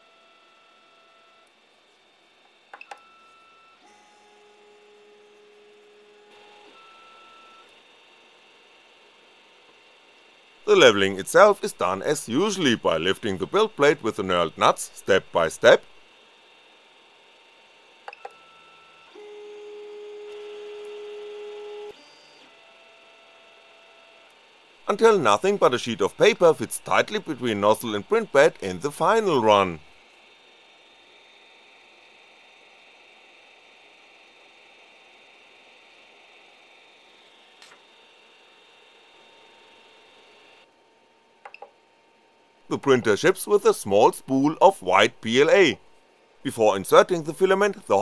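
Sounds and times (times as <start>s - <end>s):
printer fans: 0.0s - 40.8s
stepper motors whining: 0.1s - 40.7s.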